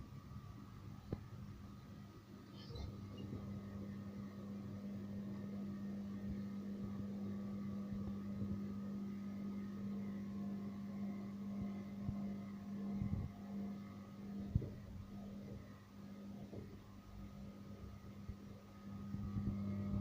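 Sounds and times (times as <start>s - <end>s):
washing machine spin hum: 0.0s - 20.0s.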